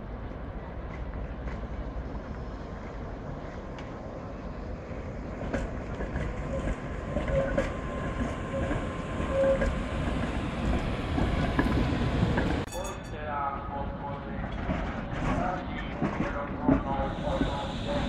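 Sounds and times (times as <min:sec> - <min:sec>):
tram rumbling past: 0:00.0 - 0:18.0.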